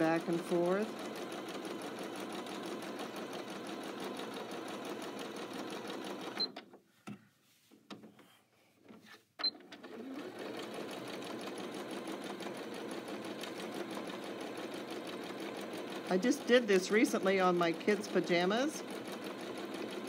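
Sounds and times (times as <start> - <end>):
sewing machine stitching: 0.0 - 6.7, 8.9 - 20.0.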